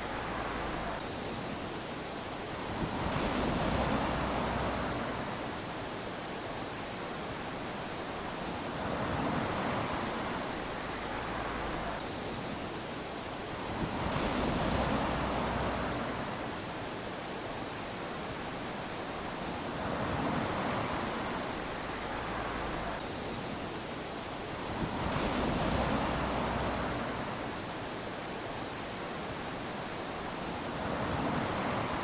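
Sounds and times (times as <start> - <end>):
wash of surf: 0.0 - 1.0, 2.3 - 7.9, 8.5 - 12.0, 13.3 - 18.9, 19.7 - 23.0, 23.6 - 32.0
small waves lapping on sand: 0.0 - 32.0.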